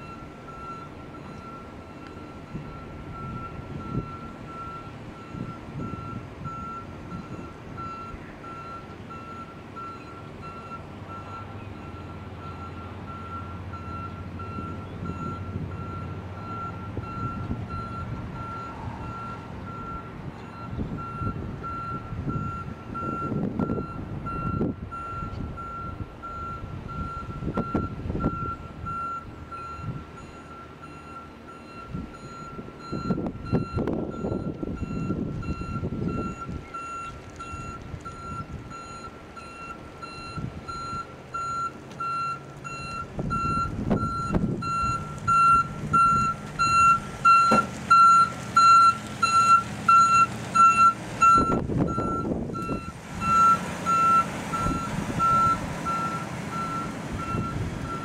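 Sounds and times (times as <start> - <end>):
back-up alarm beeping: 0.0 - 58.0
low rumbles: 0.0 - 58.0
truck engine running: 0.0 - 58.0.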